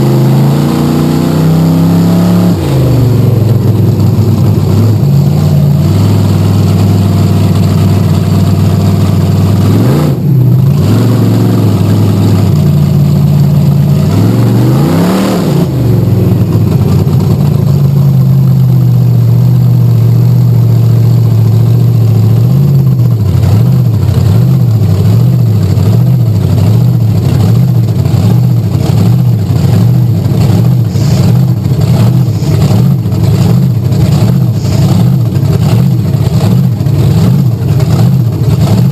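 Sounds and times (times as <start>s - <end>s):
monster truck engine revving: 0.0s - 38.9s.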